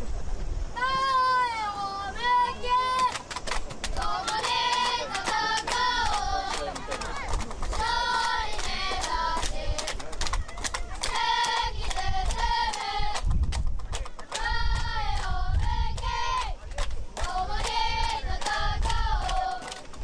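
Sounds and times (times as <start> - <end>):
children chanting and shouting: 0.8 - 3.3, 3.9 - 13.3, 14.2 - 16.6, 17.2 - 20.0.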